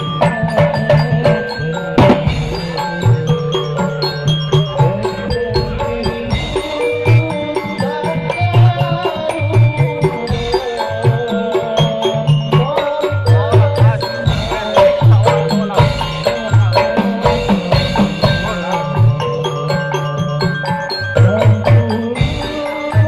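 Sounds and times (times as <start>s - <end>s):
hand drums rhythm: 0.0s - 23.0s
instrumental melody: 0.0s - 23.0s.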